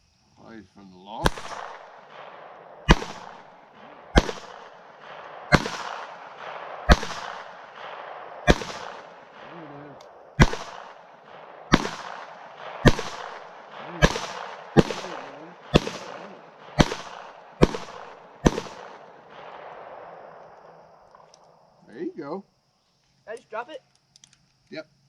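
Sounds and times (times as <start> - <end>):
pistol shots with echo: 1.1 - 21.3.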